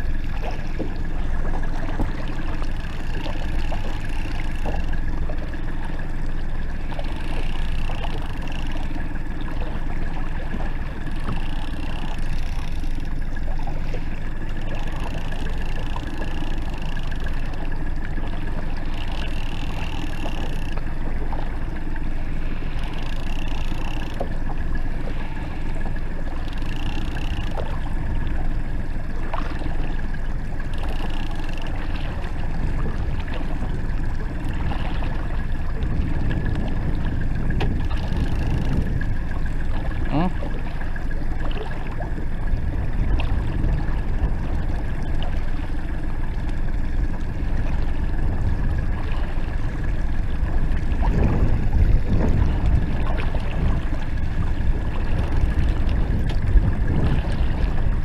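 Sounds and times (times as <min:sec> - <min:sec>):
outboard motor running: 0:00.0 - 0:58.0
wake churning and splashing: 0:00.0 - 0:58.0.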